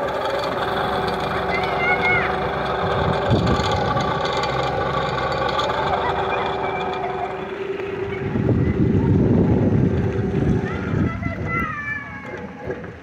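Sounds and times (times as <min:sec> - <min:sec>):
low rumble: 0:00.0 - 0:13.0
small boat motors droning: 0:00.0 - 0:13.0.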